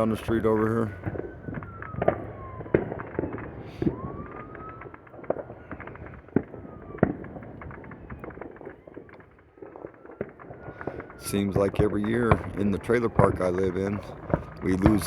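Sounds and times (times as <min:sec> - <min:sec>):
fire truck siren wailing: 0:00.0 - 0:15.0
fireworks popping and banging: 0:00.0 - 0:15.0.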